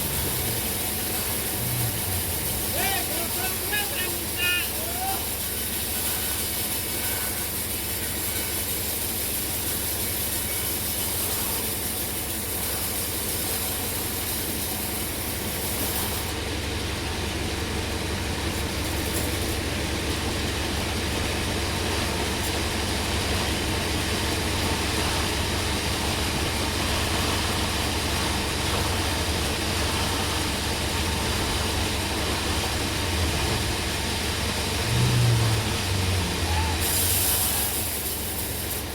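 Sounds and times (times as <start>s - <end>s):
sawmill saw humming and hissing: 0.0s - 38.9s.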